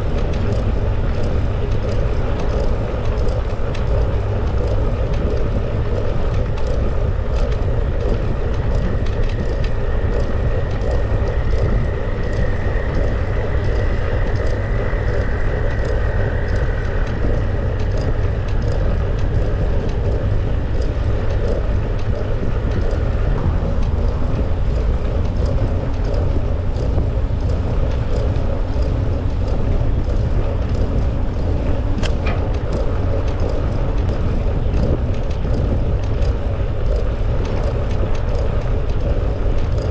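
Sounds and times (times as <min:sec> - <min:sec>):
bicycle tyres rolling on trail: 0:00.0 - 0:39.9
wind buffeting microphone: 0:00.0 - 0:39.9.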